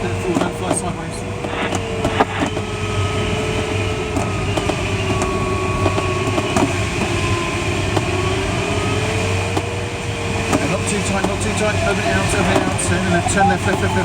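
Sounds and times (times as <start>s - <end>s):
airflow rushing past cockpit: 0.0s - 14.0s
steady tone shifting in pitch: 0.0s - 14.0s.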